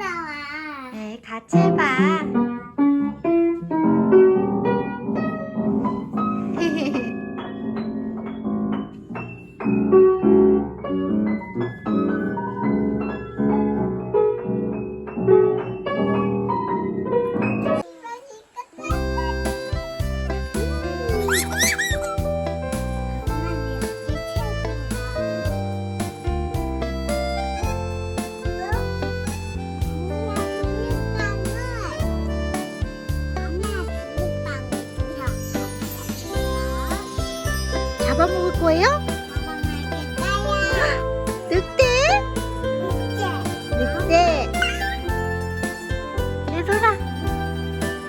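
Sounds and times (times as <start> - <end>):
piano music: 1.5 - 17.8, 18.8 - 48.0.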